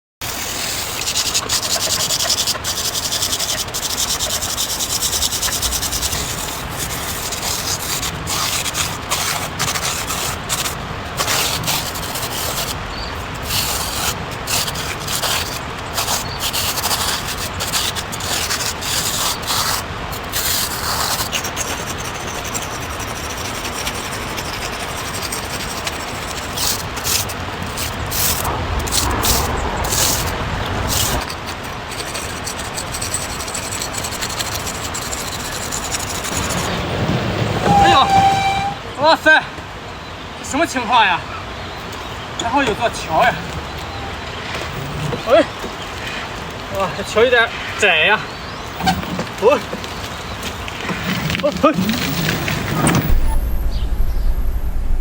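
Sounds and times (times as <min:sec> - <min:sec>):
paint brush rubbing on road: 0:00.2 - 0:38.8, 0:41.8 - 0:53.4.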